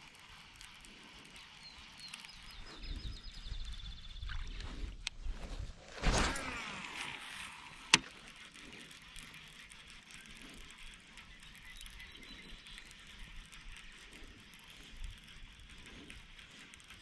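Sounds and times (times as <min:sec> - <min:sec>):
reel click: 0:00.0 - 0:05.2, 0:05.9 - 0:17.0
reel ticking: 0:00.0 - 0:05.3, 0:06.3 - 0:17.0
fishing reel whirring: 0:00.0 - 0:17.0.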